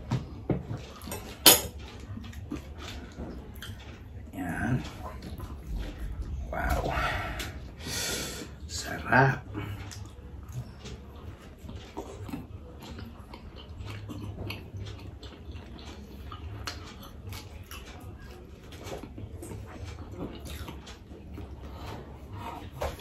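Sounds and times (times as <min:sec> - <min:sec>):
chewing and biting pizza: 0:00.0 - 0:23.0
low steady hum: 0:00.0 - 0:23.0.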